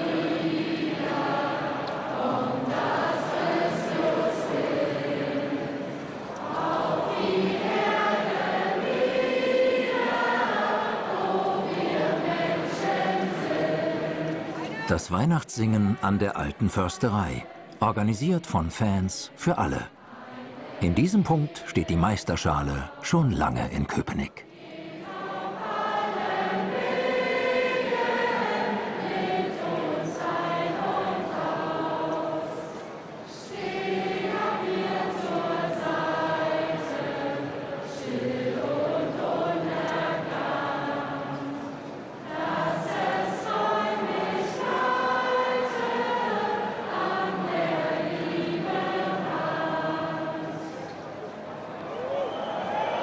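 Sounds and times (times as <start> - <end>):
crowd singing with choir: 0.0 - 51.1.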